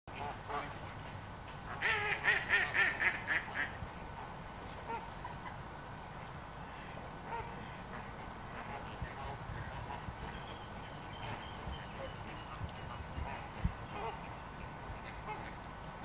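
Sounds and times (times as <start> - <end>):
flamingos honking: 0.1 - 5.6, 6.6 - 16.0.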